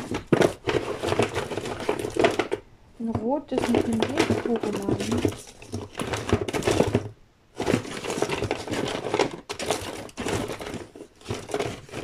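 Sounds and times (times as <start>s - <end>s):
rustling: 0.0s - 12.0s
tape rolls clicking and clattering: 0.0s - 12.0s.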